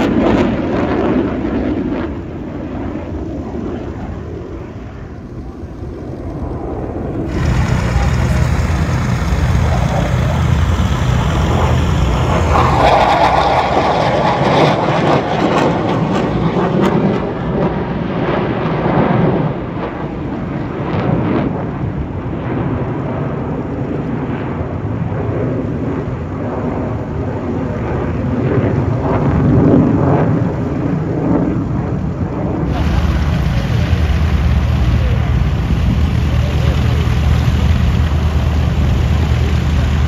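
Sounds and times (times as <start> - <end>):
jet engine roar overhead: 0.0 - 40.0.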